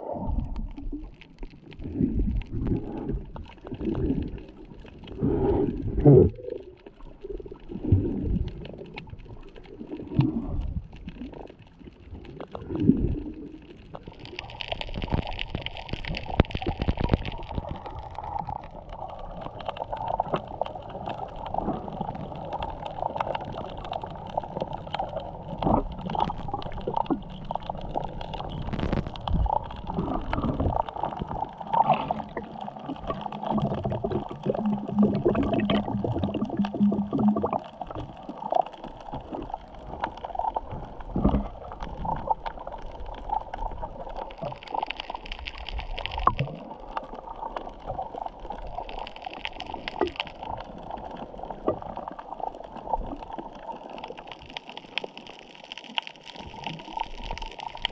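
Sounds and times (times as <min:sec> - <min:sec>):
muffled underwater gurgling: 0:00.0 - 0:57.9.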